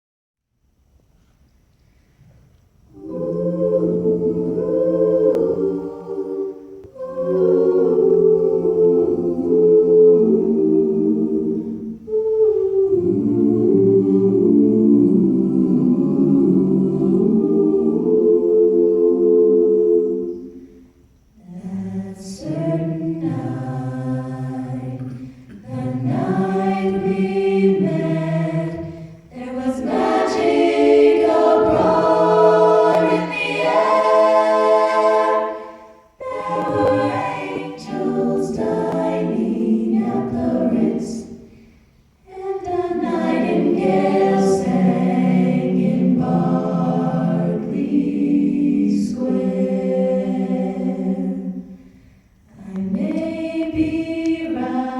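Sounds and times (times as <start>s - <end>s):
choir singing: 2.9s - 54.9s.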